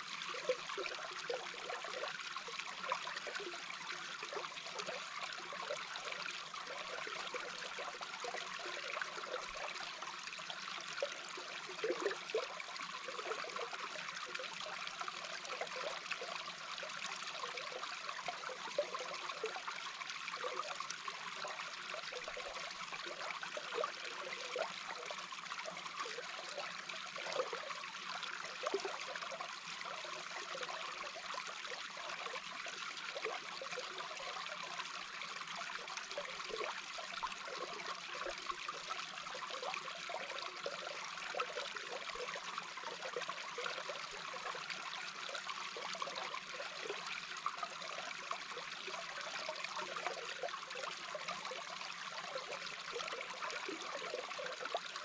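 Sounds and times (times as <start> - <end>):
underwater flowing water: 0.0 - 55.0
water gurgles: 0.0 - 55.0.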